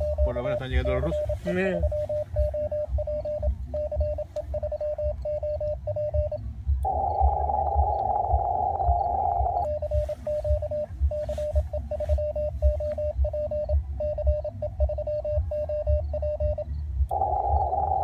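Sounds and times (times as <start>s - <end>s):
morse code tone: 0.0s - 18.0s
radio band hiss: 0.0s - 18.0s.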